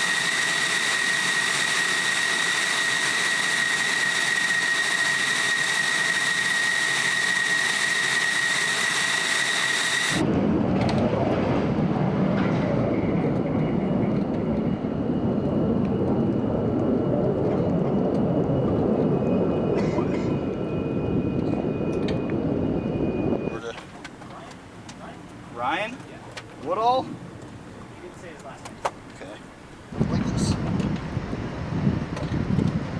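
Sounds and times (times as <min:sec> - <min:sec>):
jet engine whine: 0:00.0 - 0:32.9.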